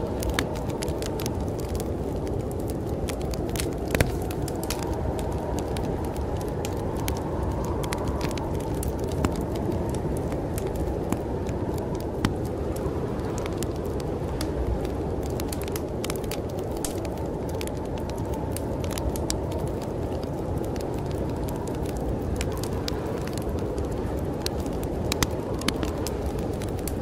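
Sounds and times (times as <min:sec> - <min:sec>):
low rush of wind: 0:00.0 - 0:27.0
wood fire crackling and popping: 0:00.0 - 0:27.0.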